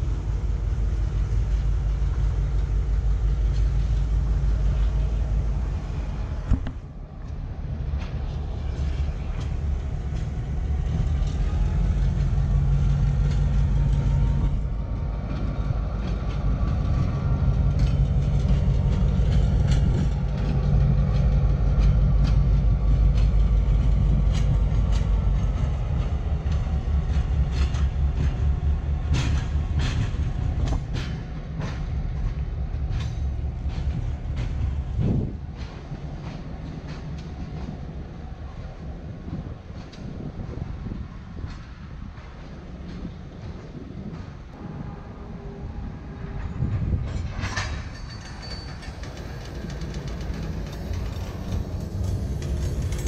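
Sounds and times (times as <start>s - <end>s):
diesel locomotive rumble: 0.0s - 53.0s
train wheels clicking over rail joints: 0.0s - 53.0s.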